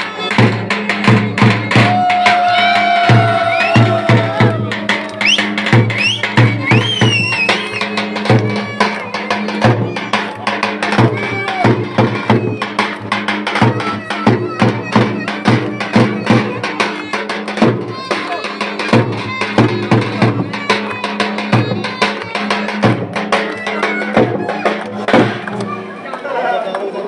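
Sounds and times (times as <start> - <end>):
rapid drum strokes: 0.0 - 25.8.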